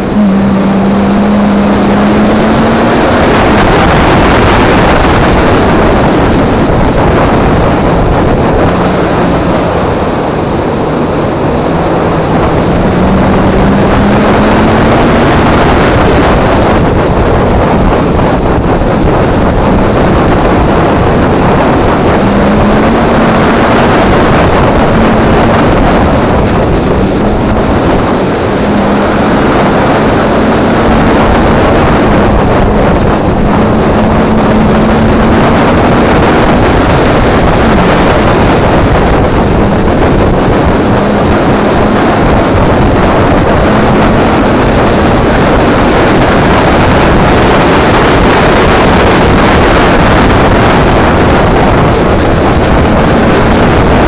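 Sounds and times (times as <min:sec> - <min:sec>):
loud car engine revving: 0:00.0 - 0:54.0
wind and road noise: 0:00.0 - 0:54.0.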